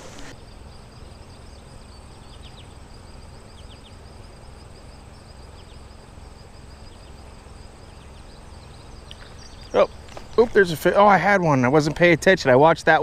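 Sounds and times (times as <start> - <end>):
insects trilling: 0.0 - 13.0
low uneven rumble: 0.0 - 13.0.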